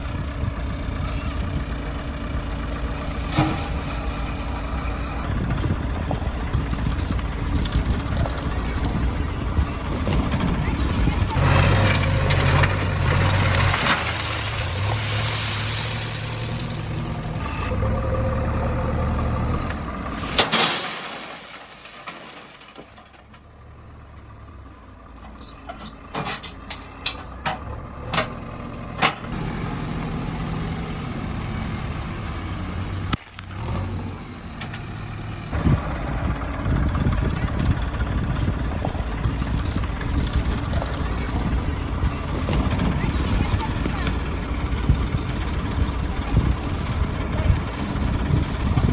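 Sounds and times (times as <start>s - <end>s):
heavy machinery diesel engines: 0.0s - 48.9s.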